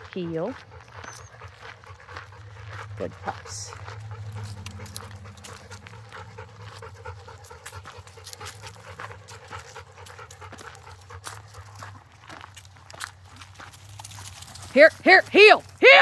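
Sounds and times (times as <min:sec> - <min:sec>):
dogs panting: 0:00.0 - 0:16.0.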